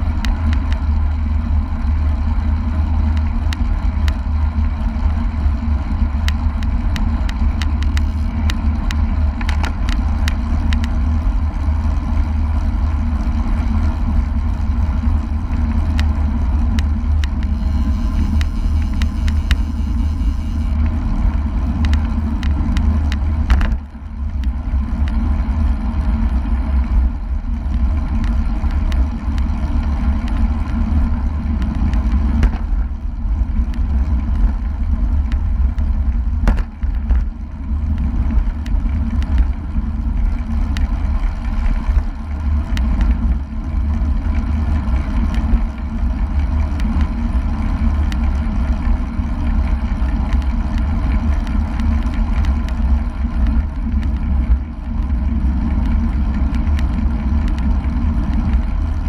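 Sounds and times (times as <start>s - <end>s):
small clicks and rattles: 0.0s - 59.0s
tyre and road noise: 0.0s - 59.0s.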